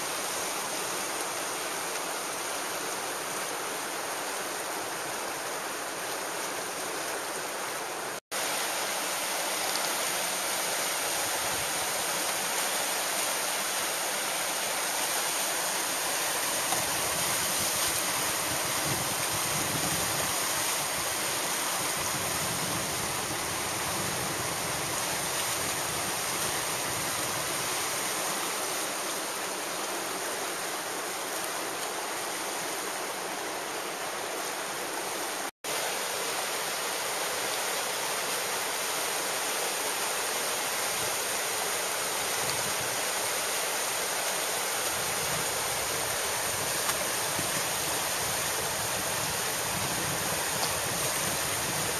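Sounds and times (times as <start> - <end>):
whitewater rushing: 0.0 - 51.9.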